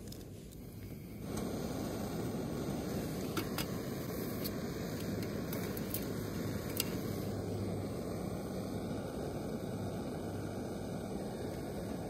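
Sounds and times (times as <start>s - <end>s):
gas stove burning: 0.0s - 12.0s.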